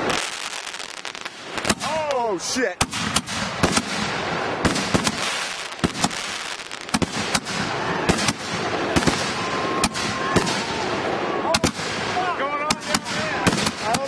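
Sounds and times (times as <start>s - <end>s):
firework bangs: 0.0s - 14.0s
firework hiss and crackle: 0.0s - 14.0s.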